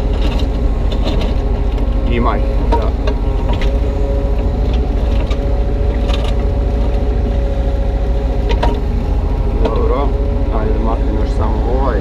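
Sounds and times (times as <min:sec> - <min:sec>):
excavator diesel engine: 0:00.0 - 0:12.0
hydraulic whine: 0:00.0 - 0:12.0.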